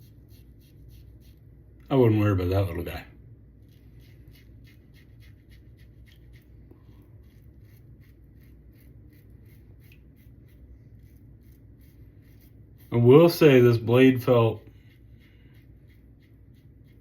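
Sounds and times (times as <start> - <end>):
razor scraping stubble: 0.0 - 1.5, 3.6 - 17.0.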